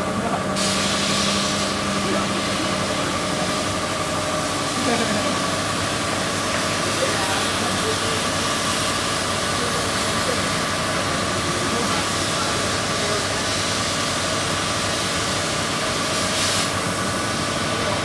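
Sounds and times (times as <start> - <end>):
laser cutter fans hissing: 0.0 - 18.0.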